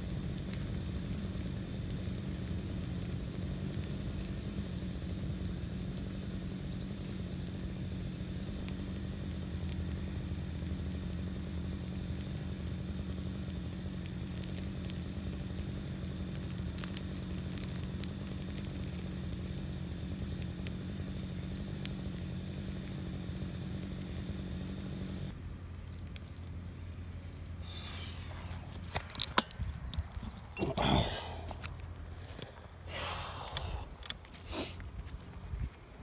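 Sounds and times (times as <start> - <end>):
brush pile crackling and popping: 0.0 - 36.0
steady low hum: 0.0 - 36.0.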